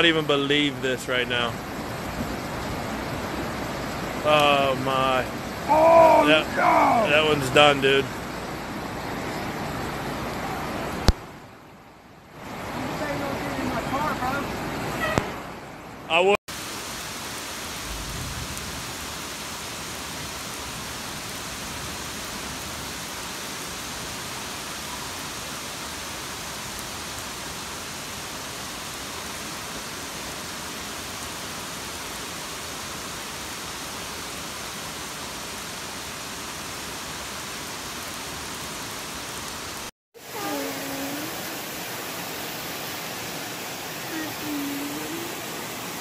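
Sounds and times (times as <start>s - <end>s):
heavy rain pouring: 0.0s - 11.6s, 12.2s - 15.7s, 16.5s - 46.0s.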